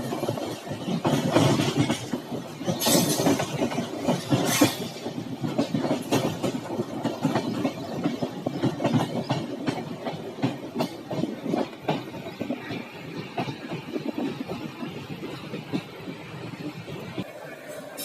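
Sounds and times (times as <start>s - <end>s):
train wheels clattering over rails: 0.0s - 17.3s.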